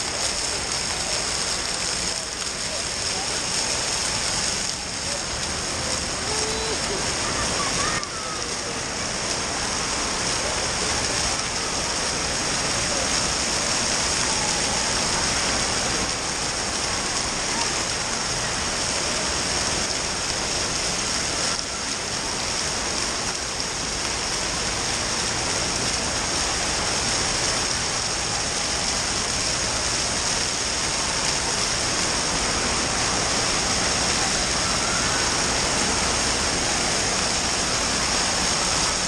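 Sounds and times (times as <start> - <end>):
rushing falling water: 0.0 - 39.0.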